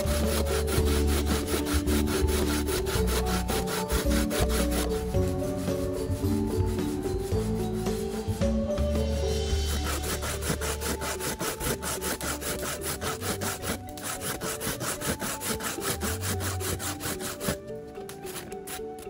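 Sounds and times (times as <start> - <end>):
coconut grating rasping strokes: 0.0 - 19.0.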